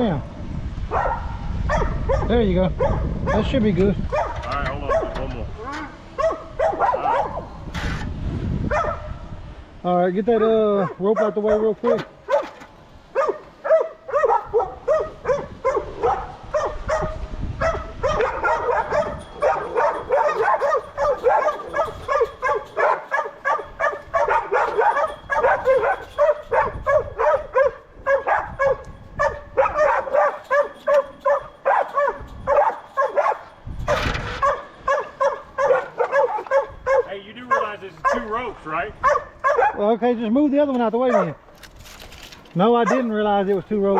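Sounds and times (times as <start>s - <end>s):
dog barking: 0.9s - 3.5s, 4.1s - 5.2s, 6.2s - 7.5s, 8.7s - 9.2s, 10.4s - 38.4s, 39.0s - 39.8s, 41.0s - 41.4s, 42.8s - 43.2s.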